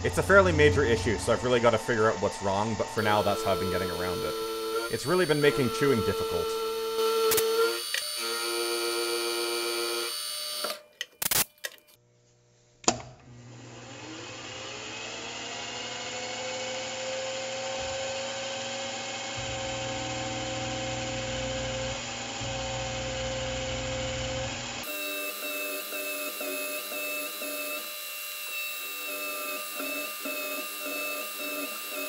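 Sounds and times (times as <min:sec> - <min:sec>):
milling machine spindle whine: 0:00.2 - 0:10.8, 0:13.8 - 0:32.0.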